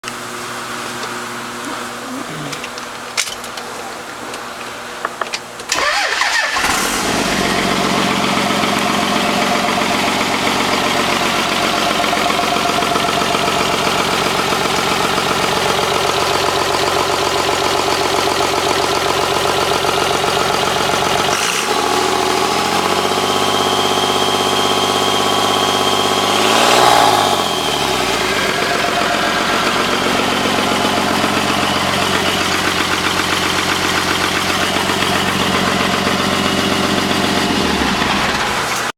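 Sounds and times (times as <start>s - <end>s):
diesel engine starting and idling: 5.4s - 38.9s
engine revving: 5.8s - 17.2s, 18.2s - 38.9s.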